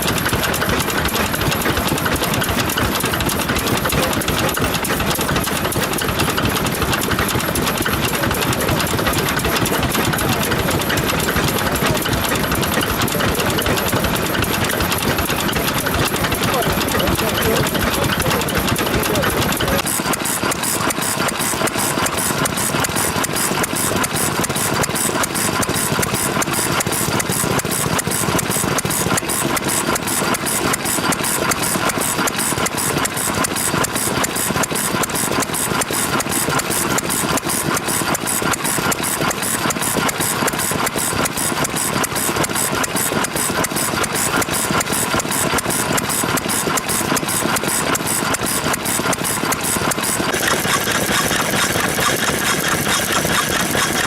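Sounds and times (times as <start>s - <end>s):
stationary engine idling: 0.0s - 54.0s.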